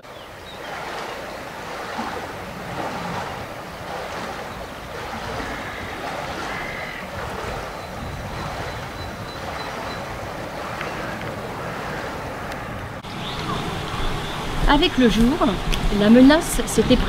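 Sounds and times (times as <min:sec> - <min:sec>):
wind blowing on microphone: 0:02.4 - 0:17.0.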